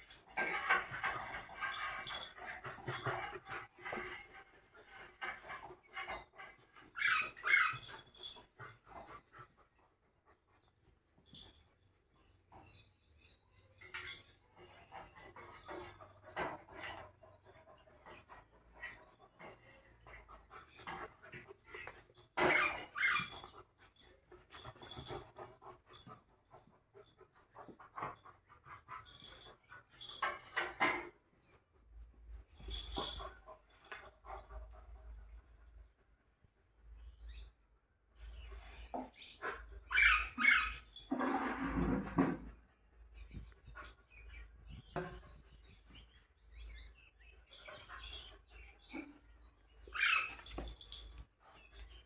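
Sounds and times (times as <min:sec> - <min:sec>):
dogs play noises: 0:00.0 - 0:13.0, 0:13.8 - 0:52.0.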